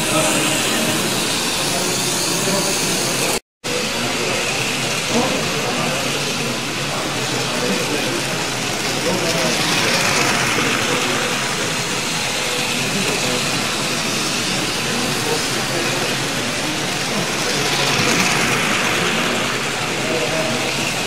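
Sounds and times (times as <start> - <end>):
background chatter: 0.0 - 21.0
model trains whirring on track: 0.0 - 21.0.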